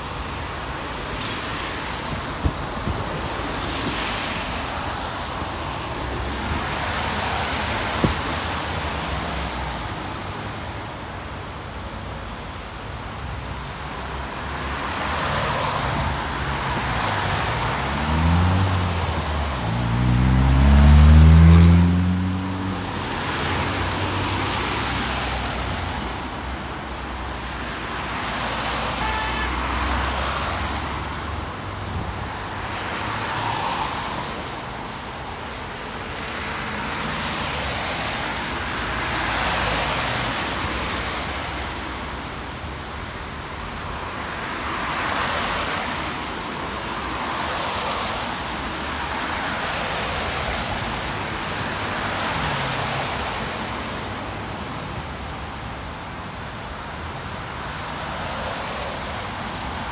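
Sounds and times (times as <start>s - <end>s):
cars passing by: 0.0s - 59.9s.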